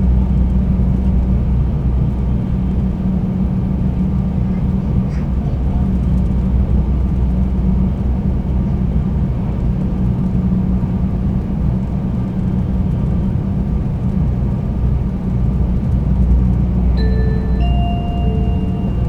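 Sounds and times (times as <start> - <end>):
constant hum: 0.0 - 19.0
train running rumble: 0.0 - 19.0.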